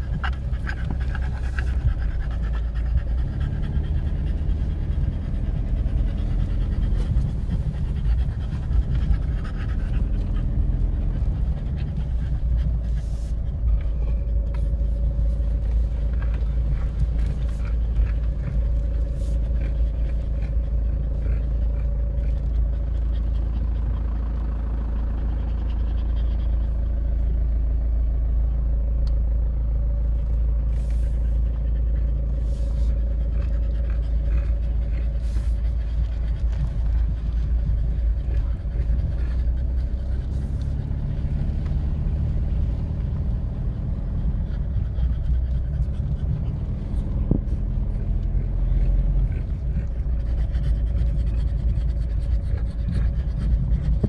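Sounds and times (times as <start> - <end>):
car engine and cabin rumble: 0.0 - 54.0.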